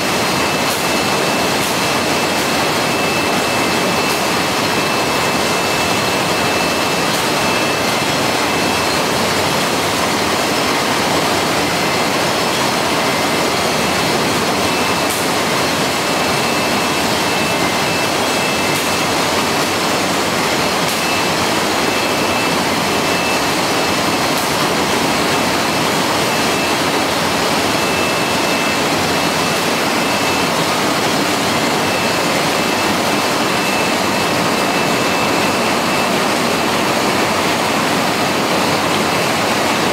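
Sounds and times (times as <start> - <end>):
machine drum with water rushing: 0.0 - 39.9.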